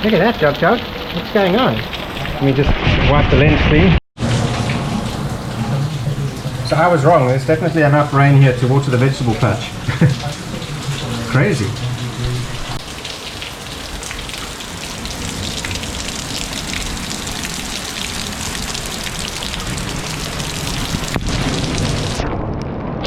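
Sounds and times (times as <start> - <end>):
torrential rain falling: 0.0 - 23.0.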